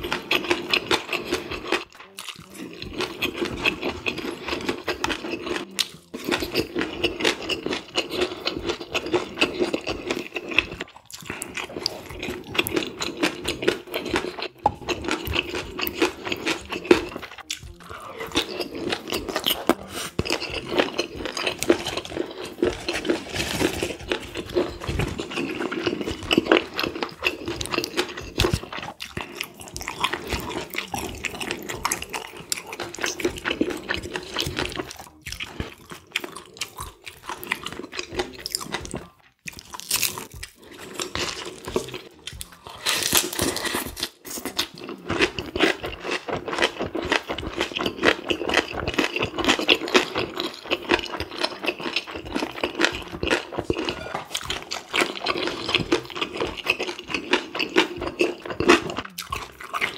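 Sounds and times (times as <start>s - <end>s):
chewing food with mouth smacks: 0.0s - 59.9s.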